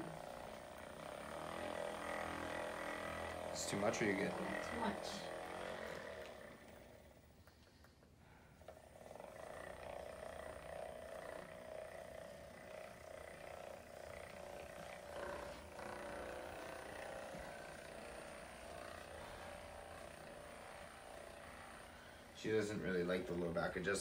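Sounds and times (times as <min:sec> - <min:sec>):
massage gun buzzing: 0:00.0 - 0:24.0.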